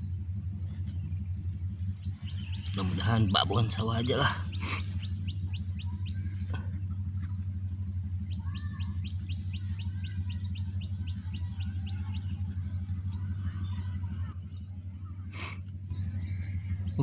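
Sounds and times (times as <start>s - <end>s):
bird chirping: 0.0s - 14.6s, 15.9s - 17.0s
steady low hum: 0.0s - 17.0s.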